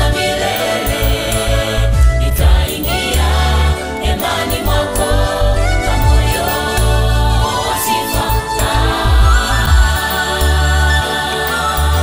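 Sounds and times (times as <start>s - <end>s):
instrumental backing with heavy bass: 0.0s - 12.0s
women singing in harmony: 0.0s - 12.0s.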